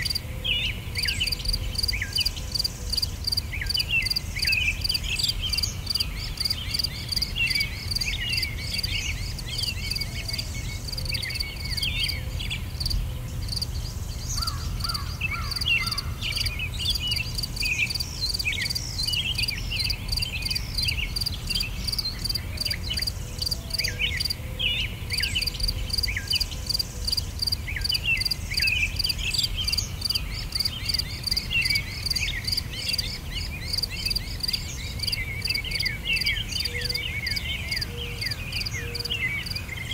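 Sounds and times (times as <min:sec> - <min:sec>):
insects chirping: 0:00.0 - 0:00.2, 0:01.0 - 0:24.4, 0:25.1 - 0:38.8, 0:39.4 - 0:39.9
bird chirps: 0:00.0 - 0:39.9.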